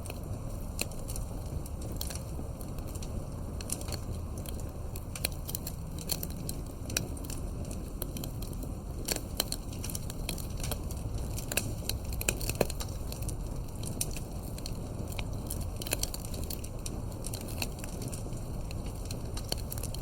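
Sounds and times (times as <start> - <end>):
sharp fire pops: 0.0 - 20.0
wood fire crackling: 0.0 - 20.0.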